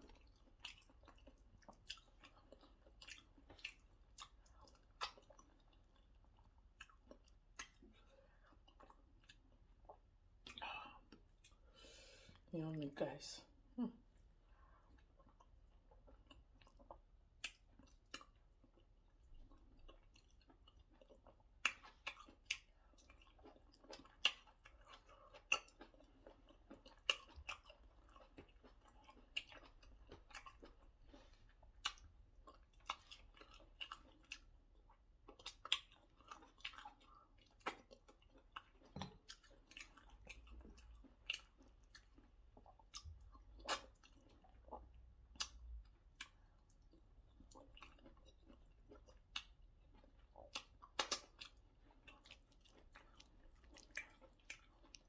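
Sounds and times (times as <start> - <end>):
person chewing with wet smacking: 0.0 - 12.5, 14.0 - 55.0.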